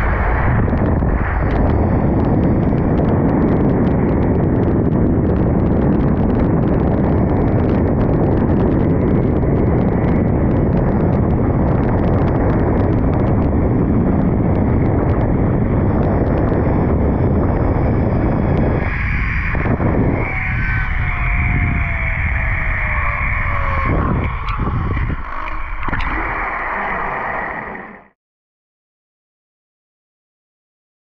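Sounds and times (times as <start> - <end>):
wind buffeting microphone: 0.0 - 28.2.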